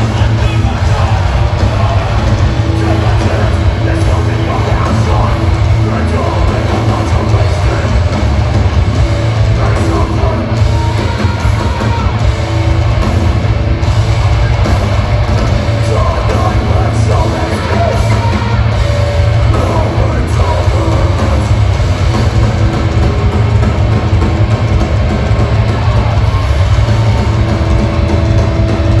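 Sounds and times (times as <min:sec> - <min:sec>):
heavy metal band playing: 0:00.0 - 0:29.0
yelled vocals: 0:00.0 - 0:29.0.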